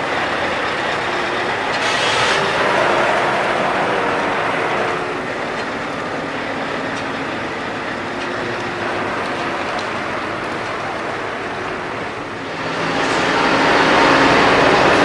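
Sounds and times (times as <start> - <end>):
heavy trucks rolling past: 0.0 - 15.0.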